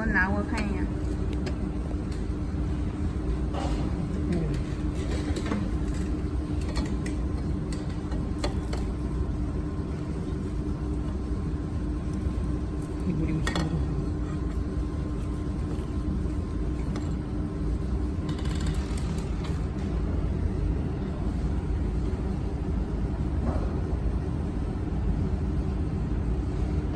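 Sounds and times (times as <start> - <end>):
laser welding machine humming: 0.0 - 23.3.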